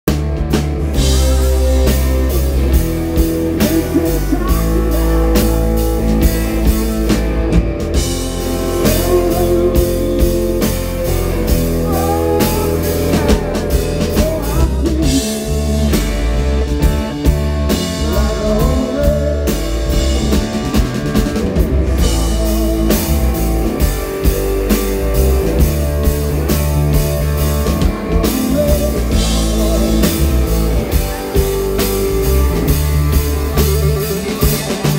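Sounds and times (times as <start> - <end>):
bass guitar: 0.0 - 34.9
drum kit: 0.0 - 34.9
electric guitar lines: 0.1 - 34.9.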